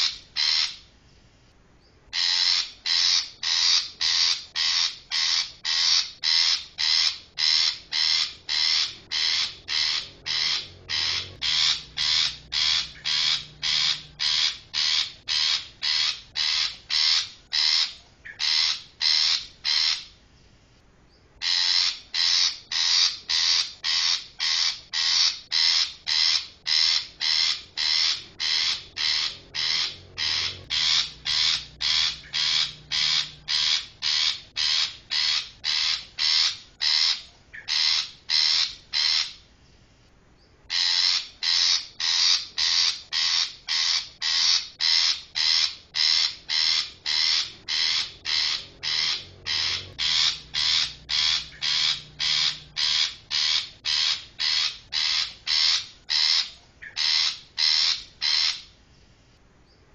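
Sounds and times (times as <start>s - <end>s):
shrike harsh rasping calls: 0.0s - 0.8s, 2.1s - 20.1s, 21.4s - 39.4s, 40.7s - 58.7s.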